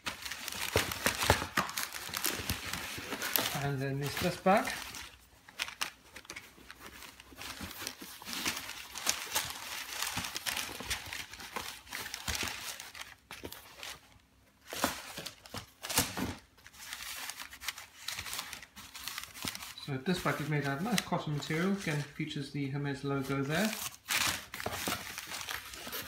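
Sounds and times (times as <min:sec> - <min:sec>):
paper and cloth rustling: 0:00.0 - 0:14.1, 0:16.6 - 0:22.3, 0:23.0 - 0:26.0.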